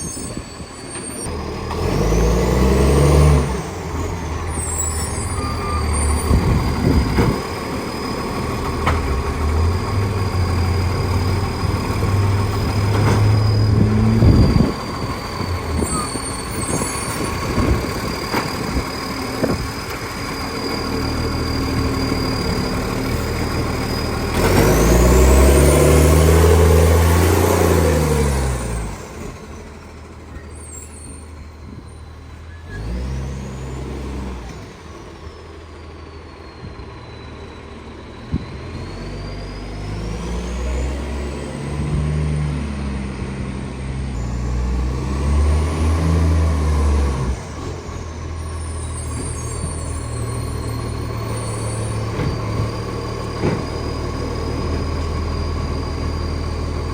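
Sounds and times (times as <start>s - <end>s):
diesel truck engine revving: 0.0s - 56.9s
high engine whine: 0.0s - 56.9s.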